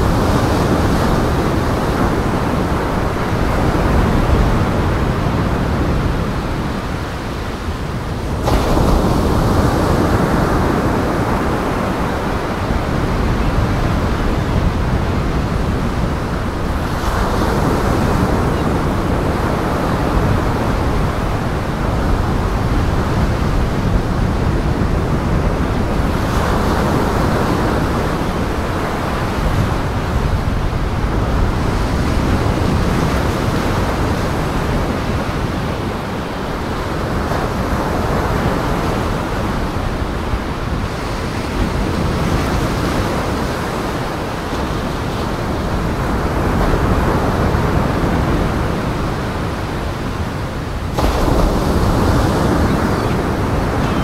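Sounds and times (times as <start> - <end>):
waves breaking against a pier: 0.0 - 54.0.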